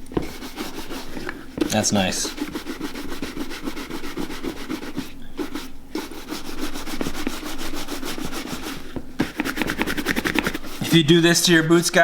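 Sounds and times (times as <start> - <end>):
buffing strokes on leather boot: 0.2 - 12.0.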